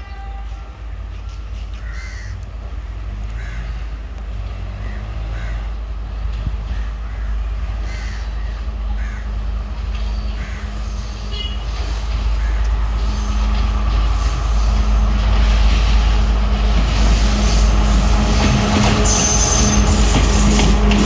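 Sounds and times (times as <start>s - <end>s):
train engine drone: 0.0s - 21.0s
wheels hissing on rail: 0.0s - 21.0s.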